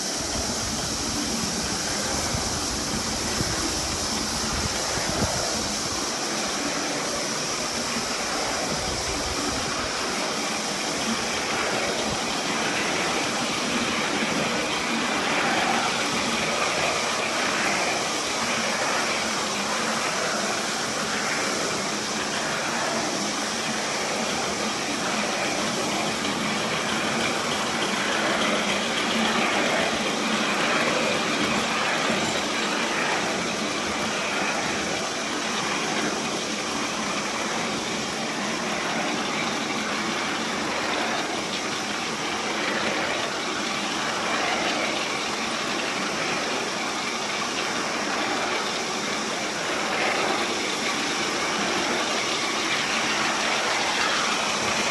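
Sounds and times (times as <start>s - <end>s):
model steam locomotive running: 0.0s - 54.9s.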